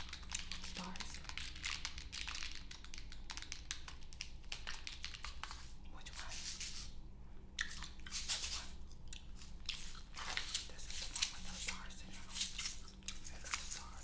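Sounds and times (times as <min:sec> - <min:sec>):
gum chewing and smacking: 0:00.0 - 0:06.6, 0:07.6 - 0:14.0.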